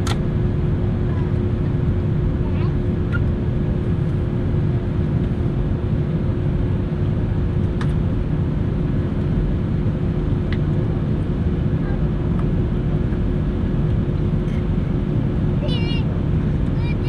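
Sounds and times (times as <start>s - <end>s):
airliner engine rumble and hum: 0.0s - 17.0s.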